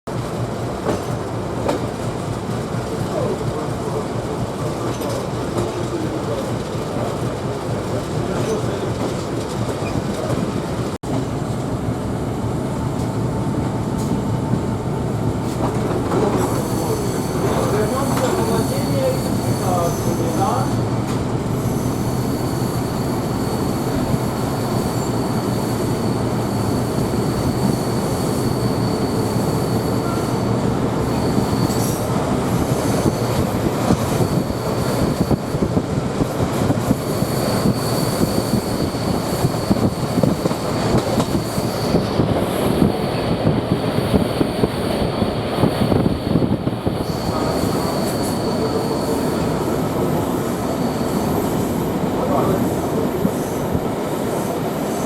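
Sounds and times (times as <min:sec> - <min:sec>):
train wheels rumbling on rails: 0:00.1 - 0:55.0.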